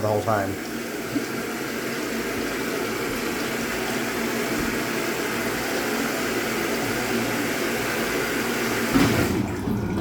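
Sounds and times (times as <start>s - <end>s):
water rushing into washing machine: 0.0s - 10.0s.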